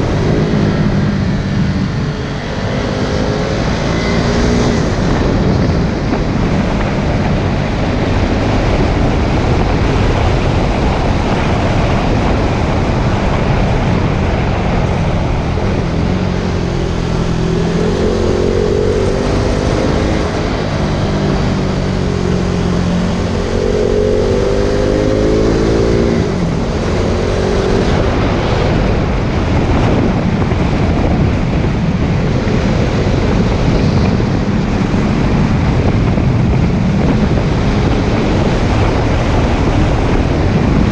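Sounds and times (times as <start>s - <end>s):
motorcycle engine running: 0.0s - 40.9s
wind on microphone: 0.0s - 40.9s.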